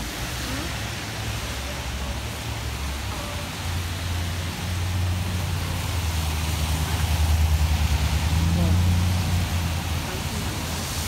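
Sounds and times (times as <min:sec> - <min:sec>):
car driving by on wet road: 0:00.0 - 0:11.0
rain hiss on wet street: 0:00.0 - 0:11.0.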